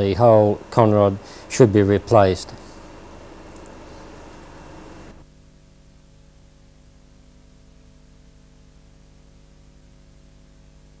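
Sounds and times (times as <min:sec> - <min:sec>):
faint hiss: 0:00.0 - 0:11.0
low electrical hum: 0:00.0 - 0:11.0.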